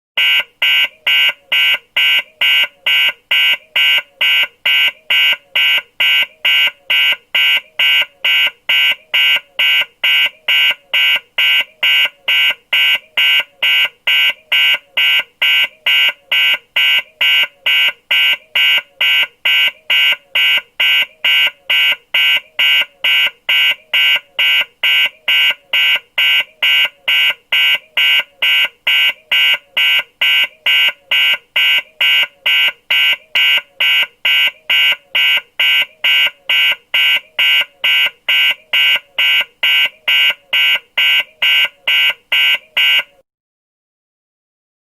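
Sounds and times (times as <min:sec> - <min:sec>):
security alarm beeping: 0:00.2 - 0:43.2.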